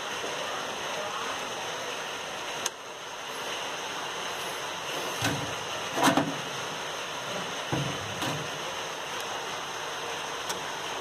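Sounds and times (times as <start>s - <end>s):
washing machine hissing: 0.0s - 11.0s.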